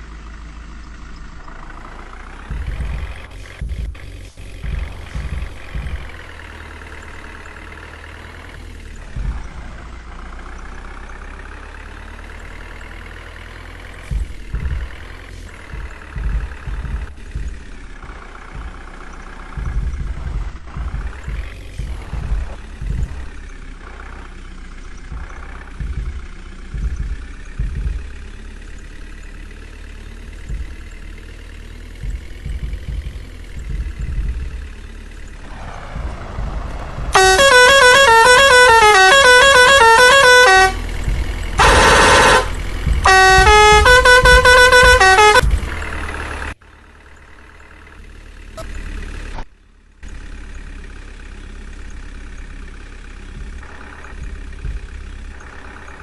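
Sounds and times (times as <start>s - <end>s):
heavy diesel engine running: 0.0s - 56.0s
low thumps and rumbles: 0.0s - 56.0s.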